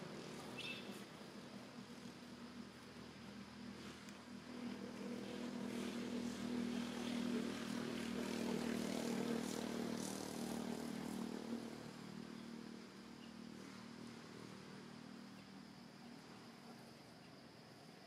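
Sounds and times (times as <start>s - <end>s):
distant engine droning: 0.0s - 16.8s.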